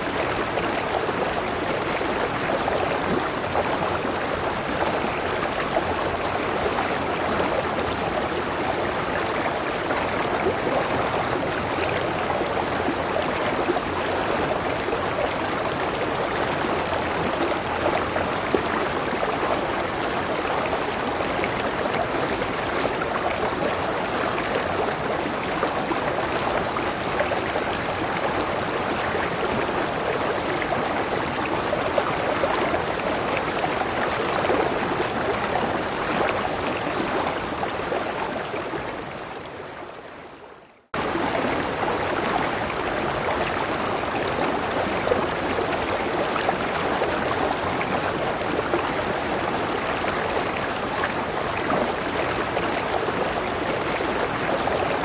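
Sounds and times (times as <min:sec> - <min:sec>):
river stream flowing: 0:00.0 - 0:55.0.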